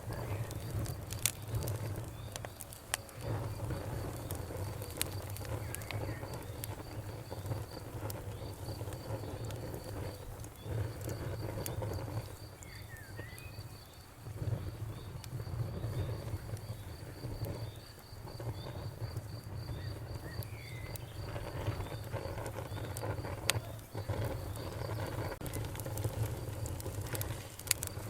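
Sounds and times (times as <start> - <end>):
low rumble of flame: 0.0 - 28.0
wood fire crackling and popping: 0.0 - 28.0.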